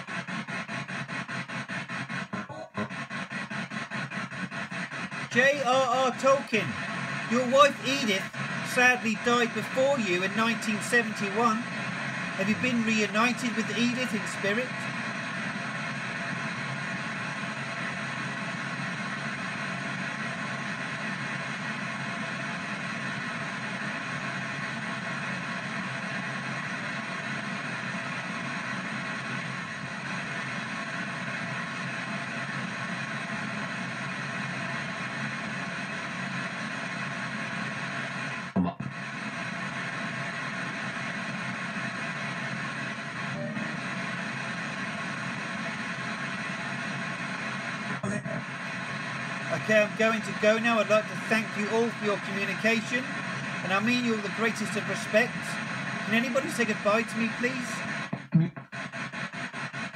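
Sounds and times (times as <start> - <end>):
radio static: 0.0 - 59.9.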